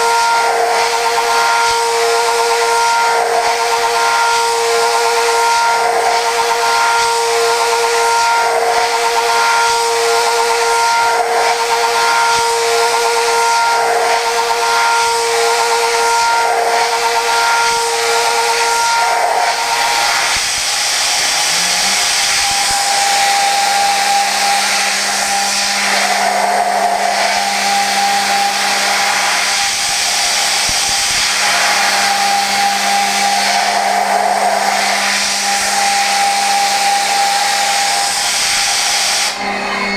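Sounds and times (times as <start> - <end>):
loud hiss: 0.0 - 39.9
milling machine cutting whine: 0.0 - 39.9.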